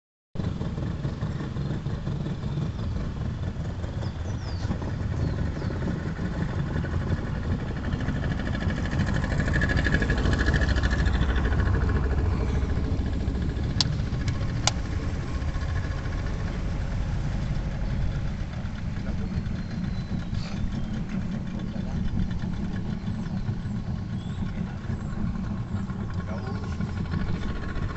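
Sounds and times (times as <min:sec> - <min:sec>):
outboard motor running: 0:00.4 - 0:27.9.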